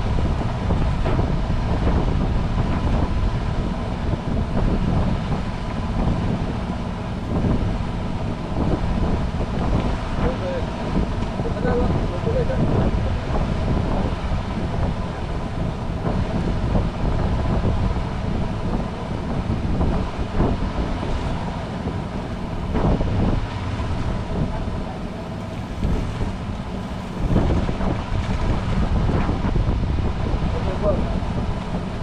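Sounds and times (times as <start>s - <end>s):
boat engine humming: 0.0s - 32.0s
wind buffeting microphone: 0.0s - 32.0s.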